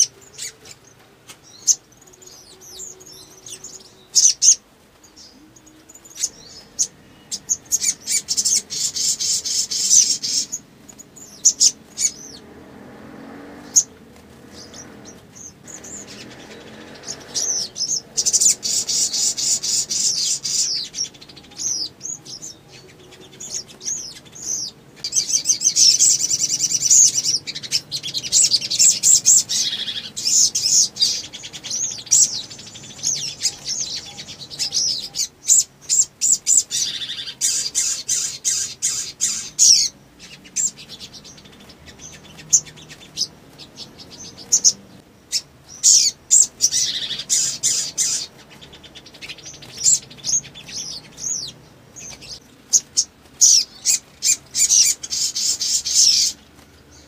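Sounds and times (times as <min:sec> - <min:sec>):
bird twittering and chattering: 0:00.0 - 0:57.0.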